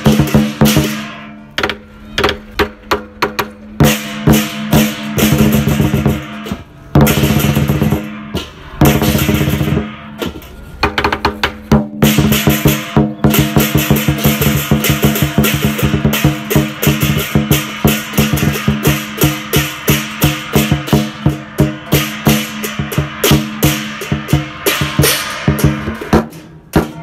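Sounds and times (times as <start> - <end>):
drum beaten fast: 0.0 - 1.3, 2.2 - 27.0
clashing percussion strikes: 0.0 - 11.0, 11.6 - 27.0.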